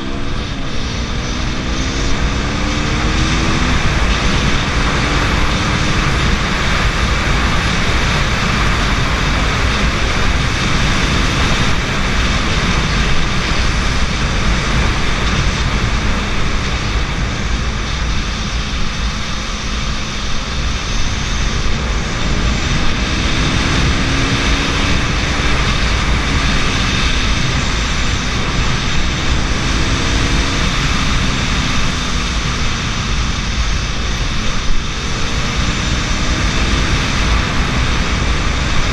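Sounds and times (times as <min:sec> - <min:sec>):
motorcycle engine running: 0:00.0 - 0:38.9
wind rush: 0:00.0 - 0:38.9.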